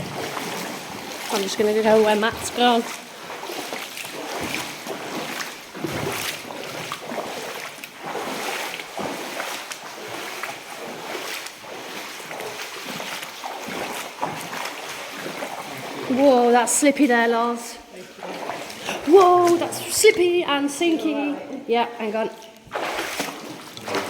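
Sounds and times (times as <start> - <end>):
wading through water in boots: 0.0 - 24.0.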